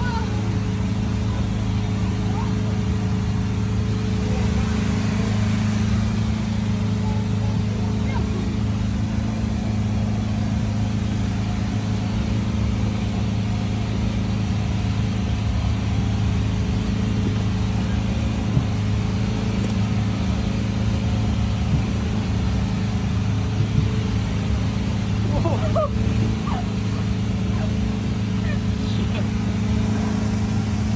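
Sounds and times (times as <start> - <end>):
boat engine droning: 0.0 - 30.9.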